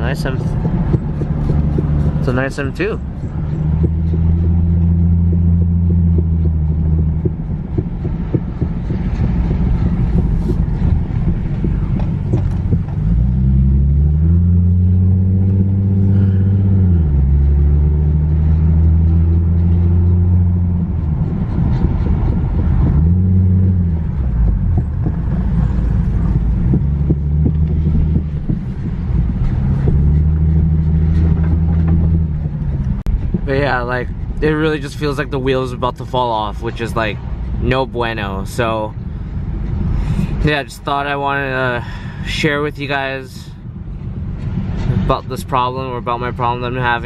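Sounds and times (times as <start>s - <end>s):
car engine drone: 0.0s - 47.0s
wheel bearing rumble: 0.0s - 47.0s.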